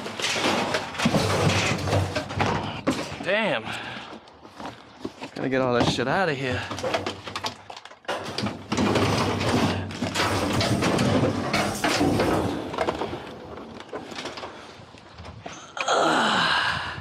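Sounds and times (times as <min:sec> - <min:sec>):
metal racks and plastic clattering: 0:00.0 - 0:15.4.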